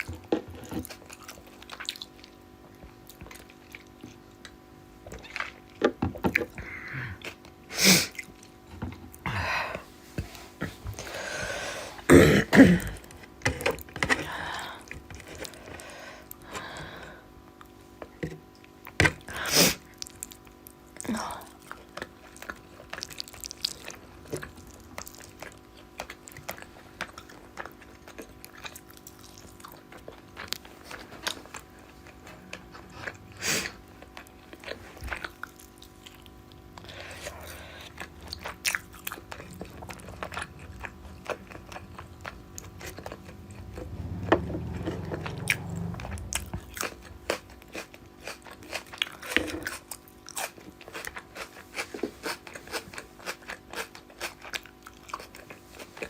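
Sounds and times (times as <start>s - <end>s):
person chewing food: 0.0s - 12.1s, 12.8s - 56.0s.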